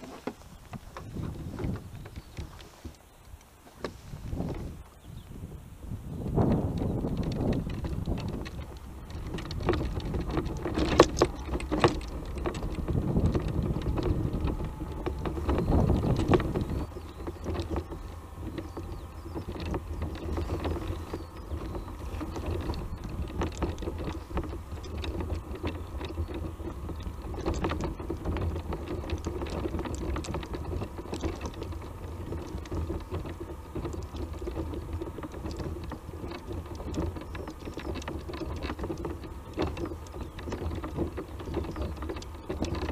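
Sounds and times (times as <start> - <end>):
tyres crunching over stones: 0.0 - 5.4, 6.2 - 42.9
wind buffeting microphone: 0.0 - 42.9
electric drive whining: 4.2 - 42.9
frame rattling: 6.3 - 42.9.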